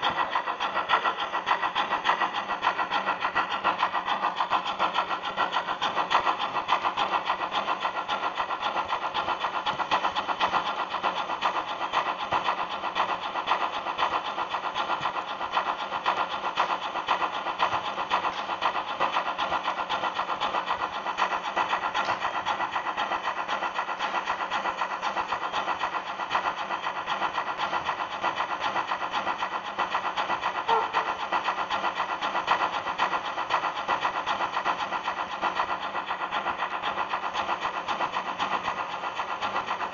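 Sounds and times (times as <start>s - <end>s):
model train motor whirring: 0.0s - 39.9s
wheels rattling over rails: 0.0s - 39.9s.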